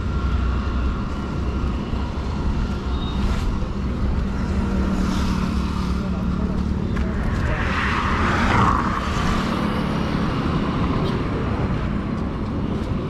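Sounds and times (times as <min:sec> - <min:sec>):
road and wind rush: 0:00.0 - 0:13.0.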